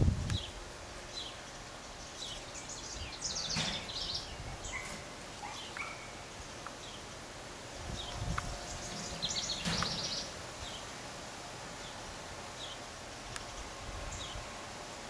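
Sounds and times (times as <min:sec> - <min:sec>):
steady outdoor background: 0:00.0 - 0:15.0
small birds chirping: 0:00.3 - 0:07.1, 0:07.8 - 0:10.9, 0:11.8 - 0:15.0.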